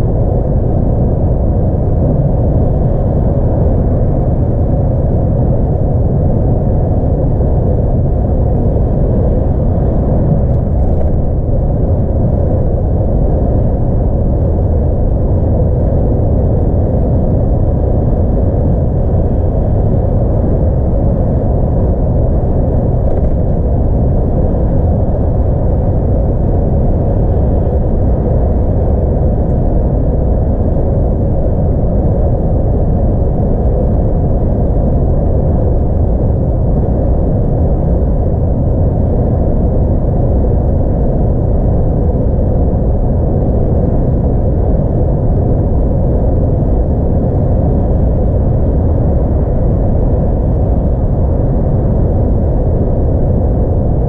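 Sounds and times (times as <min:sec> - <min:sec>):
truck engine and road noise: 0:00.0 - 0:47.2.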